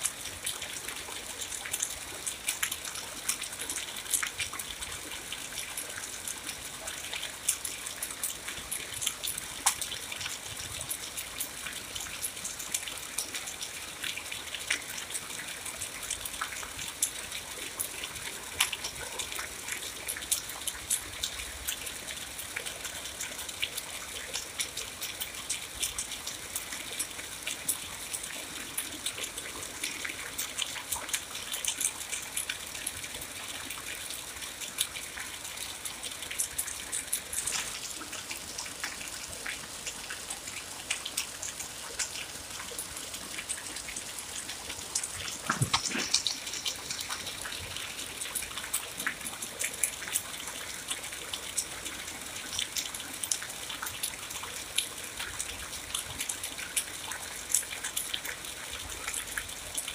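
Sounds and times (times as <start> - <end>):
raindrops ticking and spattering: 0.0 - 59.9
steady rain falling: 0.0 - 59.9.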